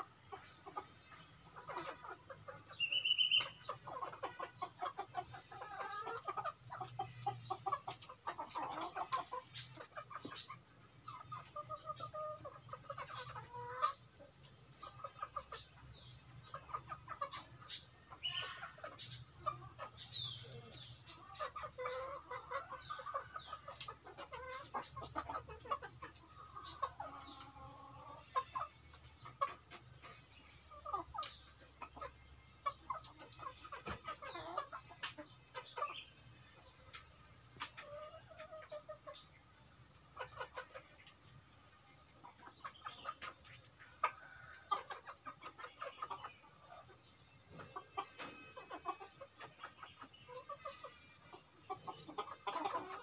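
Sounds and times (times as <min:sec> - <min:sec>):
chickens clucking and calling: 0:00.0 - 0:53.0.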